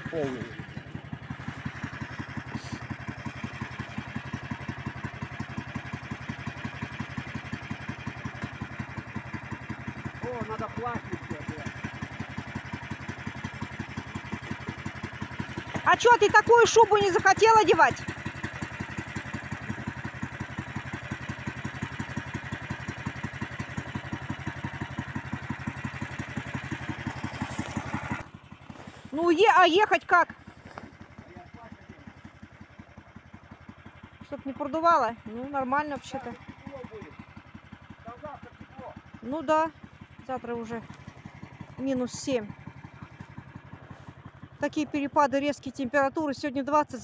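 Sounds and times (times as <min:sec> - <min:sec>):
small engine idling: 0:00.0 - 0:47.0.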